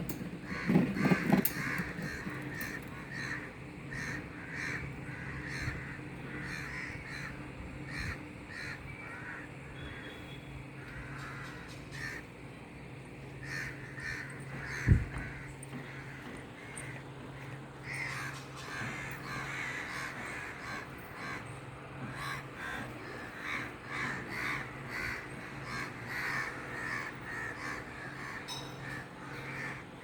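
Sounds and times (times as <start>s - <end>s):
birds with short harsh calls: 0.2s - 30.0s.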